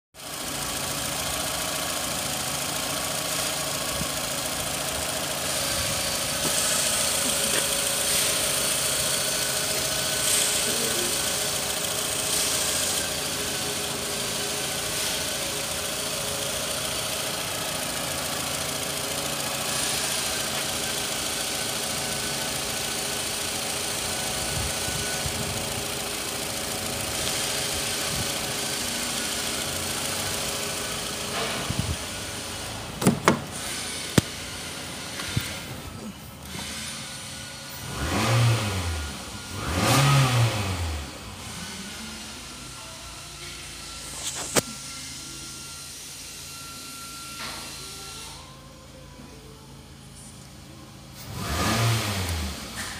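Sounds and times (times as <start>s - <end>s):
car engine idling: 0.2s - 52.9s.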